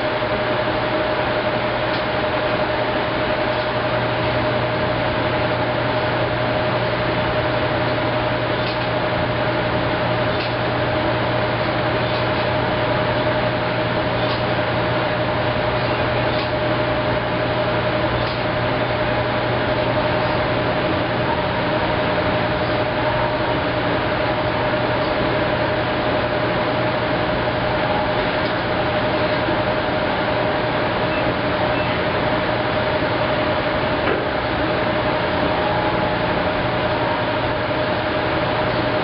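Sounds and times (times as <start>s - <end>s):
washing machine humming: 0.0s - 39.0s.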